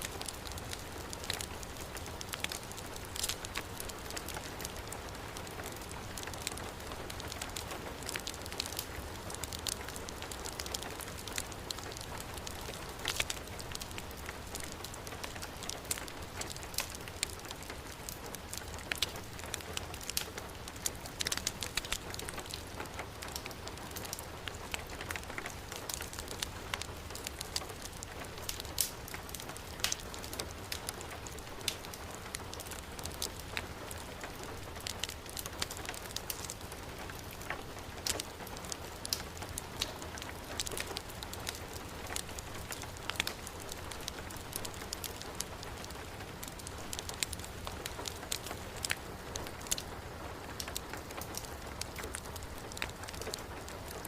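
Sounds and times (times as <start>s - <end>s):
heavy rainfall: 0.0s - 54.0s
wood fire crackling and popping: 0.0s - 54.0s.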